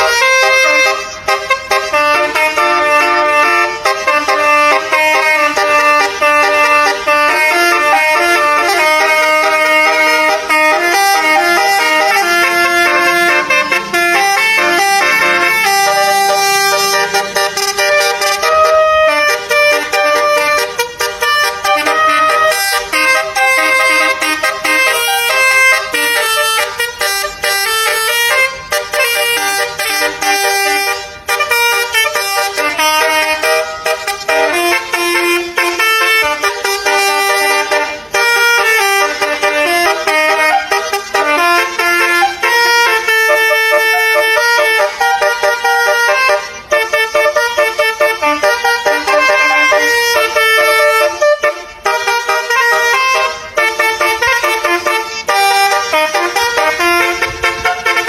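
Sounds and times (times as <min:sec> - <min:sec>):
musical bus horn melody: 0:00.0 - 0:58.0.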